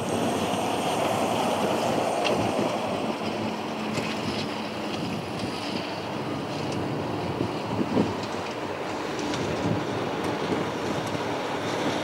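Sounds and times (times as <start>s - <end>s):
distant jet engines rumbling: 0.0s - 12.0s
wind buffeting microphone: 0.0s - 12.0s.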